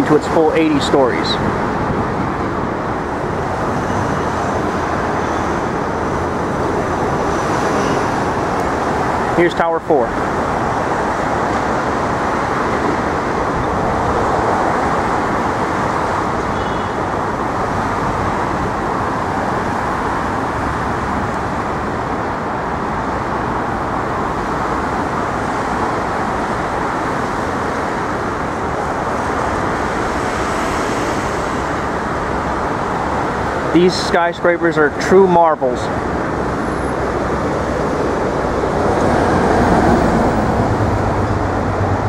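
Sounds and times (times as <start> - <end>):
city street traffic: 0.0 - 42.0.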